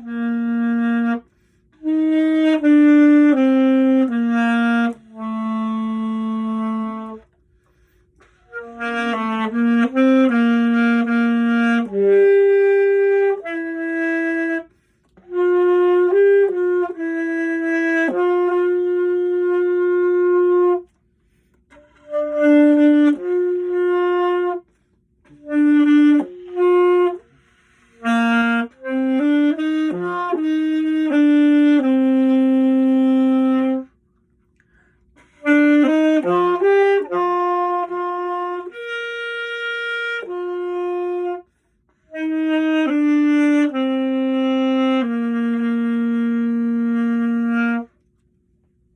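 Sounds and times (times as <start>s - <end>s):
saxophone melody: 0.0s - 48.9s.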